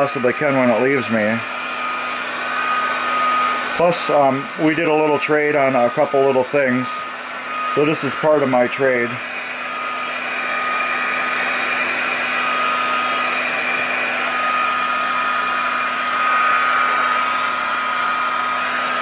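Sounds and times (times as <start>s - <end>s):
heat gun blowing air: 0.0s - 19.0s.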